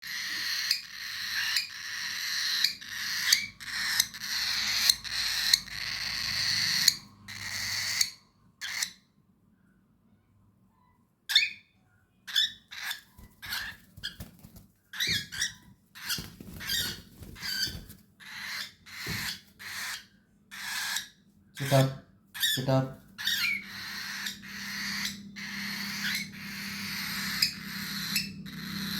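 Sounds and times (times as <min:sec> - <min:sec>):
cockatiel harsh calls: 0:00.0 - 0:09.0, 0:12.3 - 0:14.3, 0:14.9 - 0:28.9.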